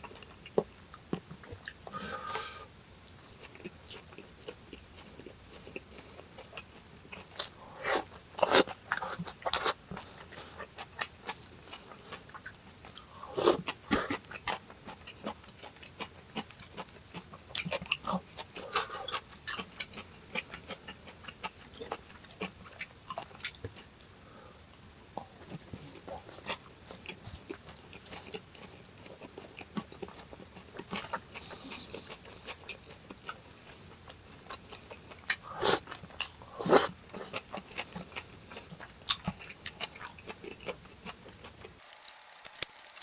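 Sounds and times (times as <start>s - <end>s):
chewing and crunching food: 0.0s - 24.1s, 24.7s - 43.0s.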